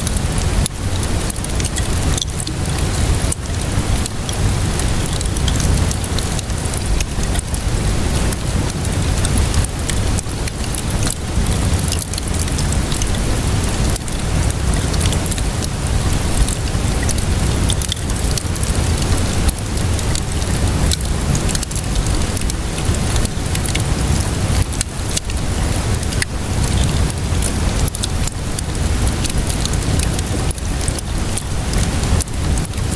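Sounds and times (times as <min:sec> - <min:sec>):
steady rainfall: 0:00.0 - 0:32.9
wood fire crackling: 0:00.0 - 0:32.9.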